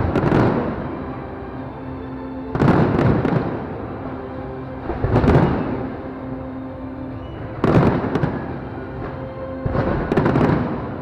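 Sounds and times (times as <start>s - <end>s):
fireworks bangs and crackle: 0.0s - 1.8s, 2.4s - 11.0s
music playing: 0.0s - 11.0s.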